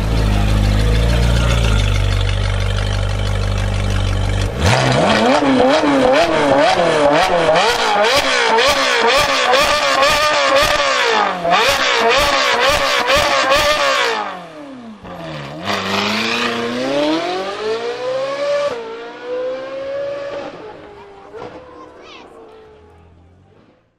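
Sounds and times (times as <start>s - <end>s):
sports car engine revving: 0.0s - 23.7s
car pulling away: 0.0s - 23.9s.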